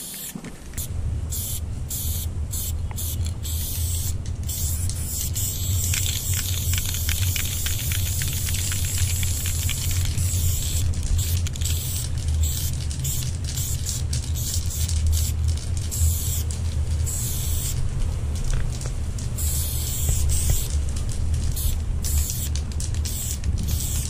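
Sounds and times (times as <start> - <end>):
spray paint can hissing: 0.0 - 17.8, 19.4 - 20.8, 21.5 - 24.0.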